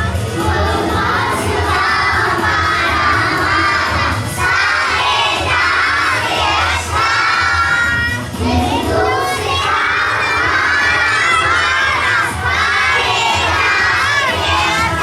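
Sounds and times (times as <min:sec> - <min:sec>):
background music: 0:00.0 - 0:15.0
young children singing loudly: 0:00.3 - 0:15.0.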